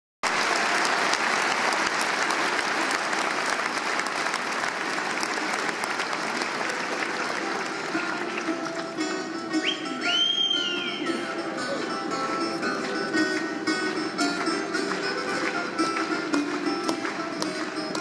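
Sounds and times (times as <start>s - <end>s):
audience applauding: 0.2s - 11.2s, 13.1s - 18.0s.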